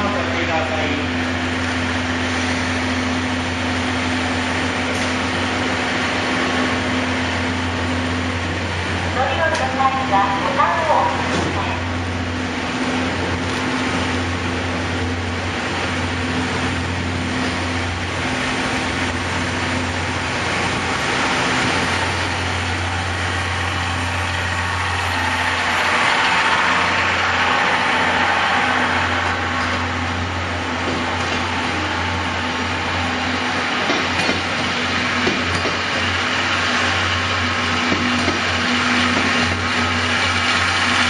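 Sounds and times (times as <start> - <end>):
locomotive mechanical hum: 0.0 - 41.0
wheels rumbling on rails: 0.0 - 41.0.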